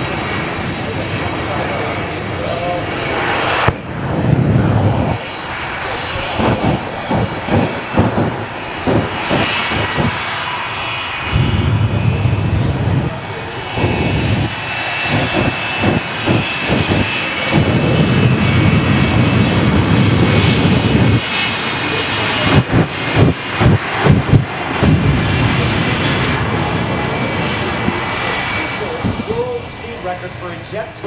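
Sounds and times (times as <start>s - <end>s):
jet engines whining: 0.0s - 31.0s.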